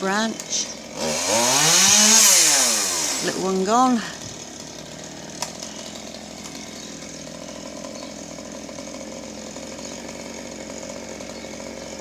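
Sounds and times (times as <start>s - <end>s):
chainsaw running: 0.0s - 12.0s.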